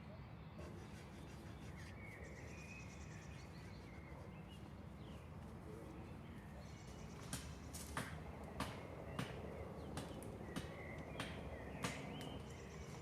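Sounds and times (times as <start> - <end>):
soft bird chirps: 0.0 - 13.0.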